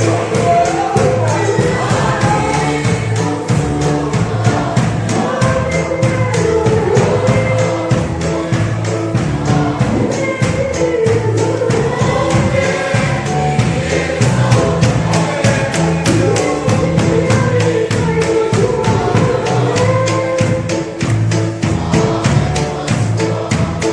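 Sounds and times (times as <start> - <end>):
group singing gospel song: 0.0 - 23.9
steady percussion beat: 0.0 - 23.9.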